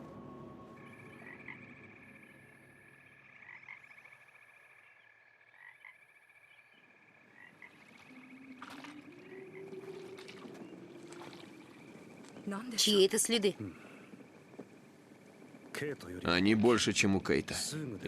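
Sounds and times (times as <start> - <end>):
frog chorus croaking: 0.8 - 18.0.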